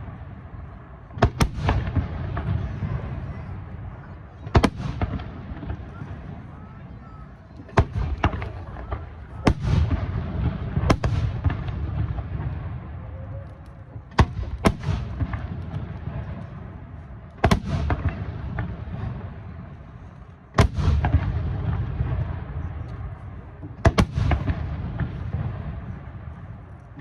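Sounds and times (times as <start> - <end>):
rolling rumble and crackle: 0.0 - 27.0.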